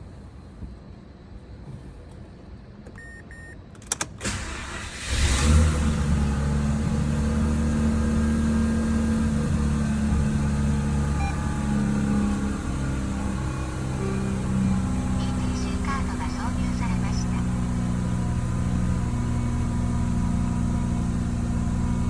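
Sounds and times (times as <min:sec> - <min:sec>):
car engine starting and idling: 0:01.5 - 0:22.0.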